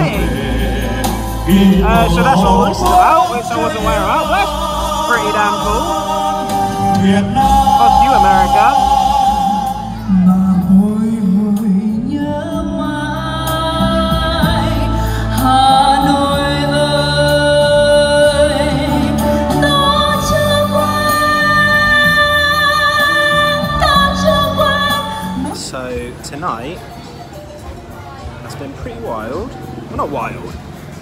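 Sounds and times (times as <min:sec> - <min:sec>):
woman singing: 0:00.0 - 0:25.5
backing music: 0:00.0 - 0:31.0.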